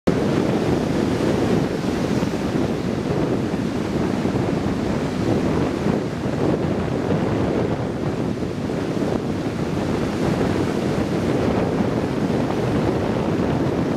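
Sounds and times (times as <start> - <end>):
heavy surf breaking: 0.1 - 13.9
wind buffeting microphone: 0.1 - 13.9.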